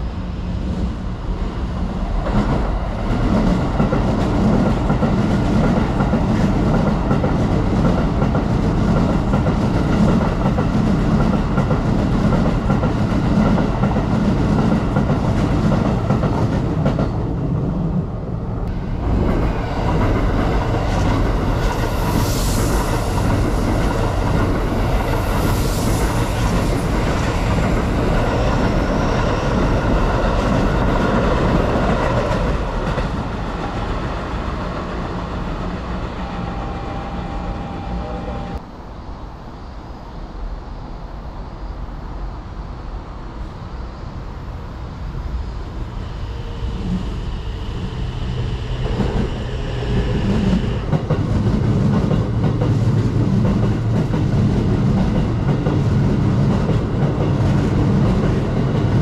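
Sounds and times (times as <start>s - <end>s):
electric trains passing: 0.0s - 59.0s.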